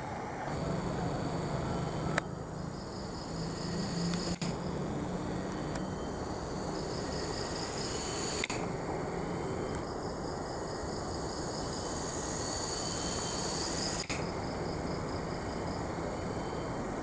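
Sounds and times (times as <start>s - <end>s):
insect pulsing trill: 0.0s - 17.0s
insects trilling: 0.0s - 17.0s.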